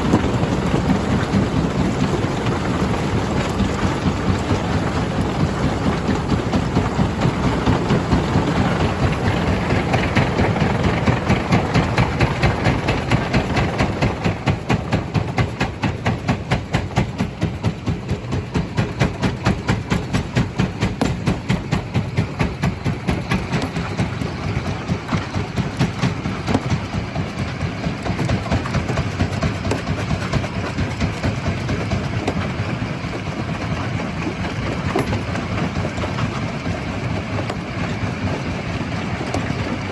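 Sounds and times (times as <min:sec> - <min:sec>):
stone crusher machine running: 0:00.0 - 0:39.9.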